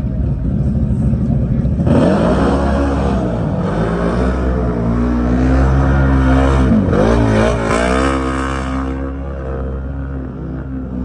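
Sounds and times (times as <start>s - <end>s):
race vehicle engine revving: 0.0s - 11.0s.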